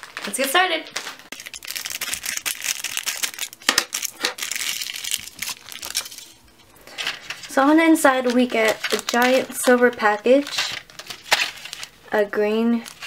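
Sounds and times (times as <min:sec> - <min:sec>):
packaging crinkling: 0:00.0 - 0:12.1, 0:12.8 - 0:13.0.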